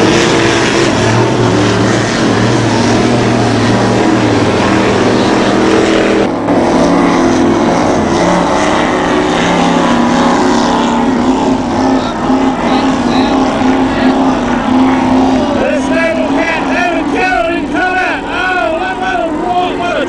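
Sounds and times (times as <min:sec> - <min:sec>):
race boat engines running: 0:00.0 - 0:20.0.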